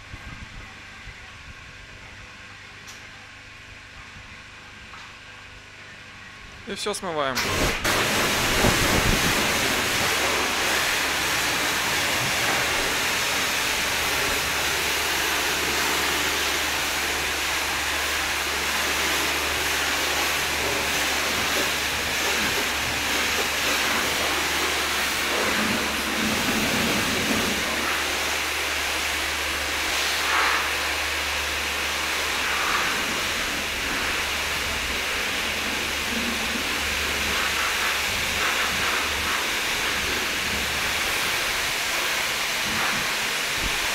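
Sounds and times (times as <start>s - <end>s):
pressure washer spraying water: 7.4s - 43.9s.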